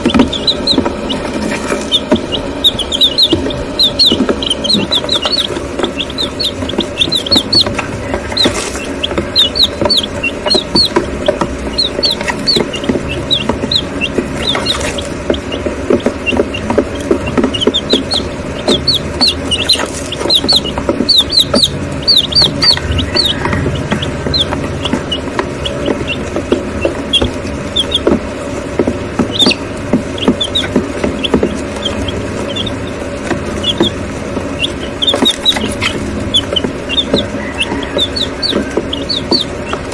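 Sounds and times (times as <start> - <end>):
chicks peeping: 0.0 - 39.9
steady low hum: 0.0 - 39.9.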